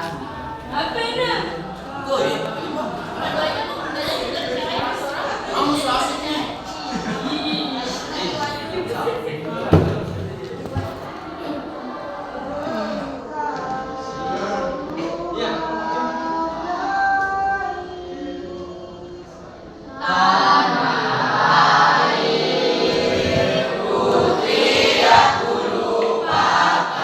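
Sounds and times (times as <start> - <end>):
choir singing: 0.0 - 27.0.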